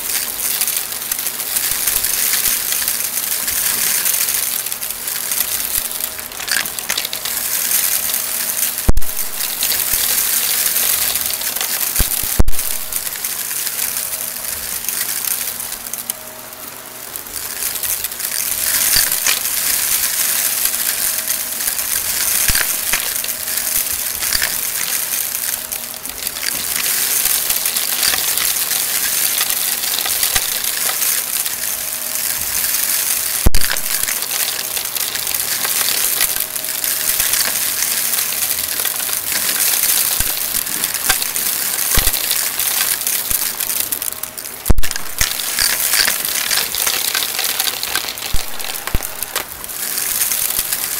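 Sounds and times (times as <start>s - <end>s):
hard pieces clacking inside vacuum: 0.0s - 15.5s, 17.5s - 50.9s
vacuum cleaner sucking debris: 0.0s - 15.9s, 17.1s - 50.9s.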